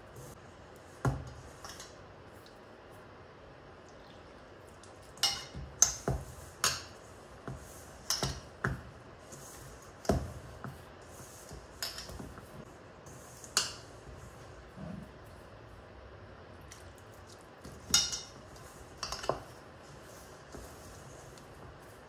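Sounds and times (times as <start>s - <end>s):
hands mixing dough in a bowl: 0.0s - 22.0s.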